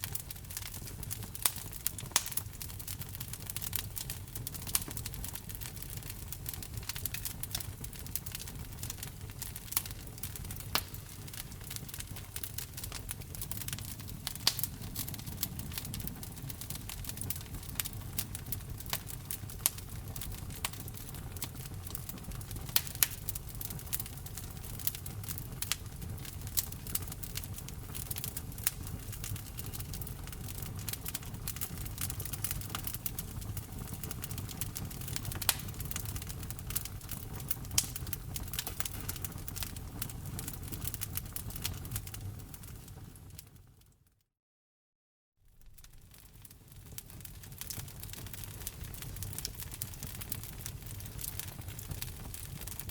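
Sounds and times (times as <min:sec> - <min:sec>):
wood fire crackling and popping: 0:00.0 - 0:44.0, 0:45.5 - 0:52.9.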